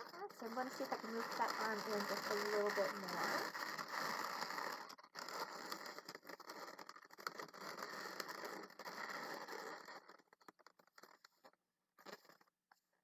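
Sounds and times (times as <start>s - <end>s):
balloons rubbing and rustling: 0.0s - 10.4s.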